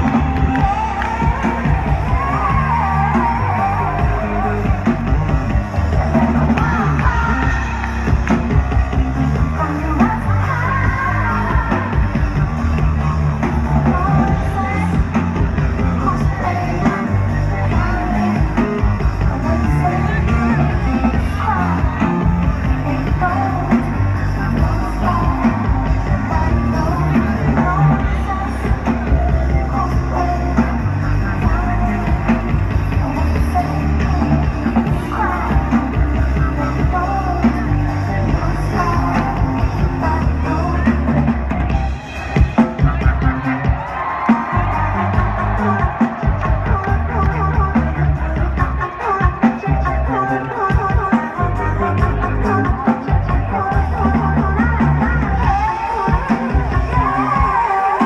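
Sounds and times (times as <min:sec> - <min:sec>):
heavy bass line: 0:00.0 - 0:58.0
loud electronic music: 0:00.0 - 0:58.0
sung vocal melody: 0:00.0 - 0:58.0.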